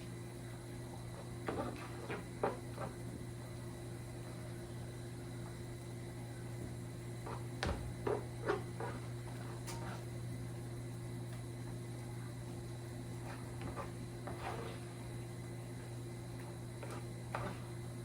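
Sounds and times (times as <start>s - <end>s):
low kitchen hum: 0.0s - 18.0s.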